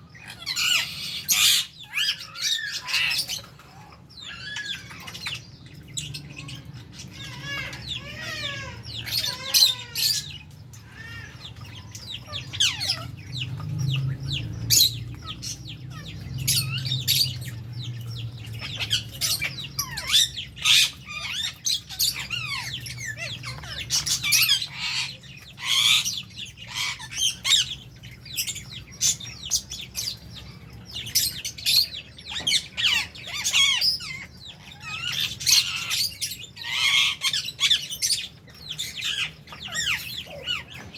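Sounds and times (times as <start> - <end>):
birds chattering and squawking: 0.0 - 40.9.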